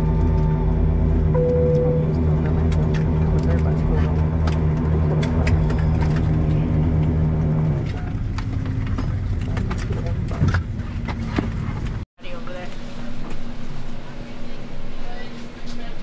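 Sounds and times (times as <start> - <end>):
aircraft cabin droning hum: 0.0 - 16.0.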